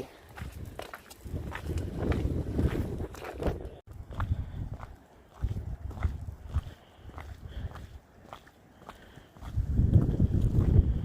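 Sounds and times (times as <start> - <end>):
footsteps in boots: 0.0 - 11.0.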